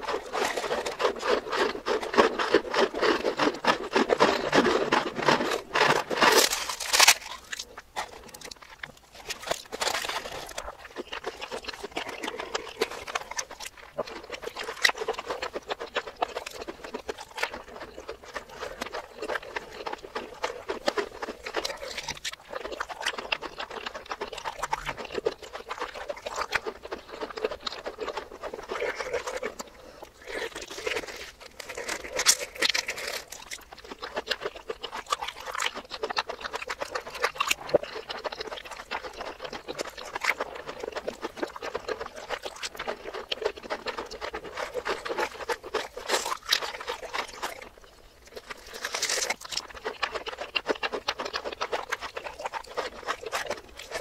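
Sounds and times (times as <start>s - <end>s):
reversed chewing and crunching: 0.0s - 54.0s.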